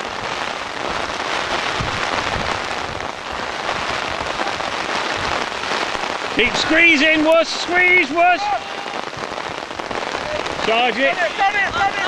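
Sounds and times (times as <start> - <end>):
low wind buffets: 0.0 - 12.0
wind hiss on microphone: 0.0 - 12.0.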